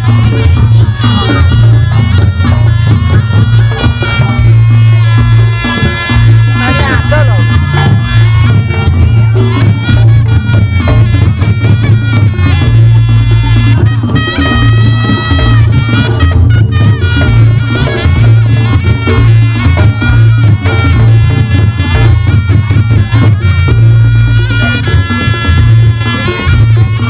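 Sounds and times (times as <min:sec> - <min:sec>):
drums: 0:00.0 - 0:27.0
heavy steady bass: 0:00.0 - 0:27.0
reed trumpet melody: 0:00.0 - 0:27.0.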